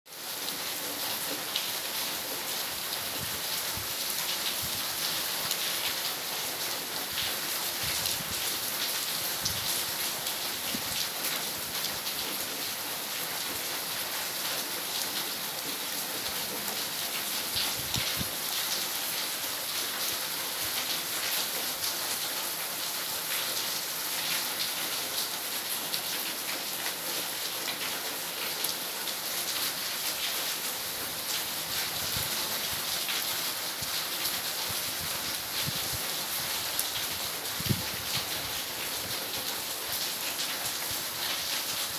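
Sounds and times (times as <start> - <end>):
steady rain falling: 0.1 - 41.9.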